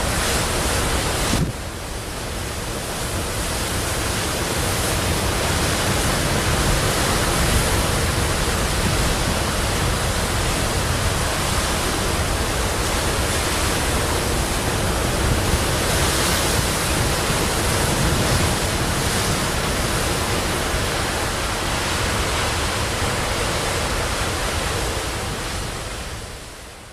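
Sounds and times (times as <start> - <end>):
sea waves breaking: 0.0 - 26.9.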